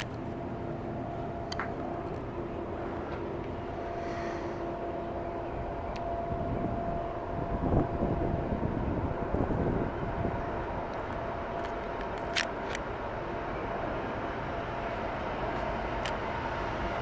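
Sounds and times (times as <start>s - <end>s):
distant engine rumble: 0.0s - 17.0s
faint whine: 0.0s - 17.0s.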